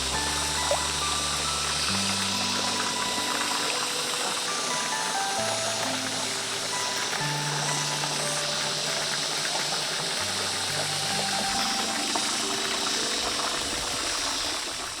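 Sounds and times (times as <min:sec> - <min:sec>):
music of long low notes: 0:00.0 - 0:15.0.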